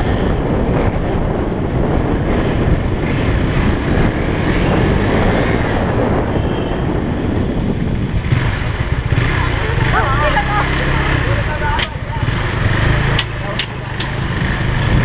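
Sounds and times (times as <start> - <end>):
motorcycle engine running: 0.0 - 15.0
wind rumbling on microphone: 0.0 - 15.0.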